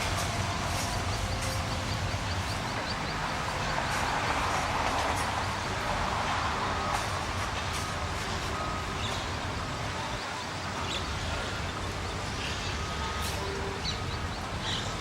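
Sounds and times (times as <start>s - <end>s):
diesel train engine rumble: 0.0s - 15.0s.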